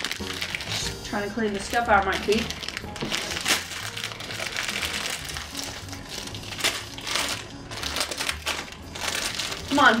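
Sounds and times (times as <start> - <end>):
plastic sweet bag crinkling: 0.0 - 10.0.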